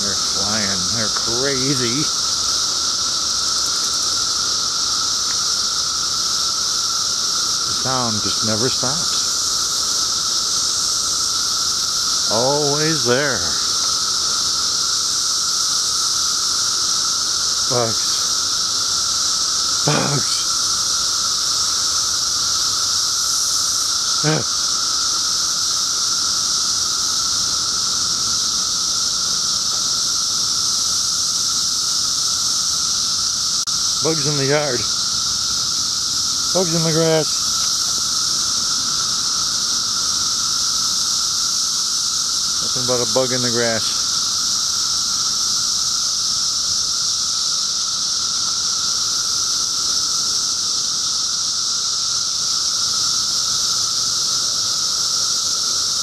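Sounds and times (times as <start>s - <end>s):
cicadas droning: 0.0s - 56.0s.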